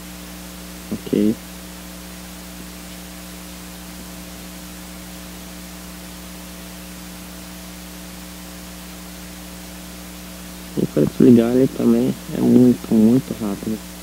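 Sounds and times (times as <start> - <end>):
electrical mains hum: 0.0 - 14.0
steady hiss: 0.0 - 14.0.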